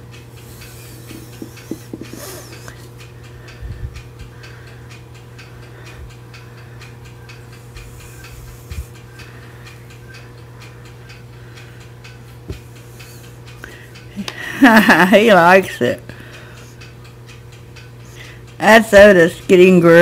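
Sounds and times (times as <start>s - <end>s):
faint regular ticking: 0.0s - 20.0s
low steady hum: 0.0s - 20.0s.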